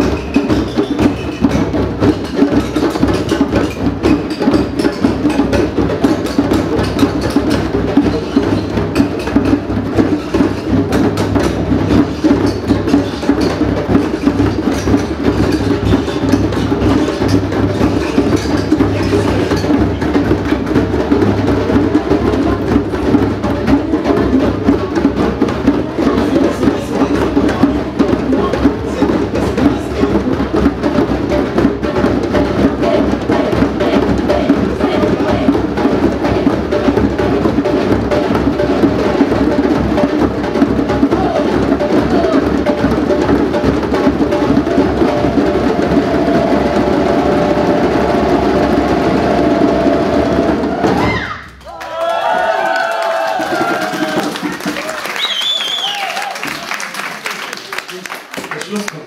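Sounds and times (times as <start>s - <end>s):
barrel drum struck with sticks: 0.0s - 51.3s
hand drums beaten in a circle: 0.0s - 56.8s.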